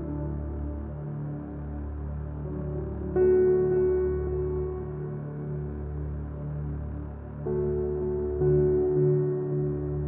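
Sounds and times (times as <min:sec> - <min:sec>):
ambient music with sustained notes: 0:00.0 - 0:10.0.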